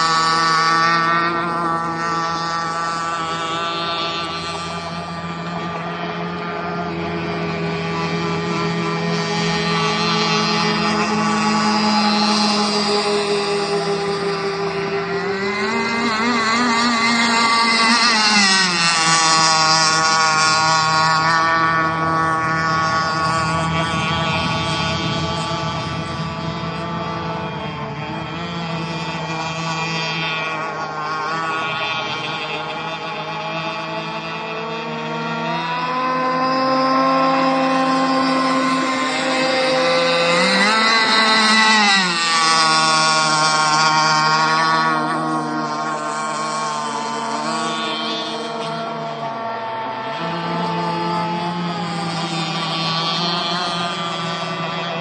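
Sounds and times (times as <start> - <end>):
model boat motor running: 0.0 - 55.0.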